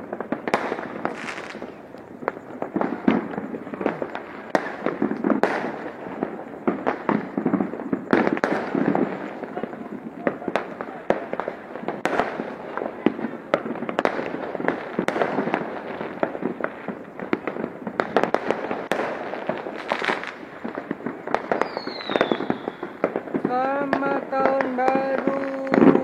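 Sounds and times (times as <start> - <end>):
fireworks popping and banging: 0.0 - 26.0.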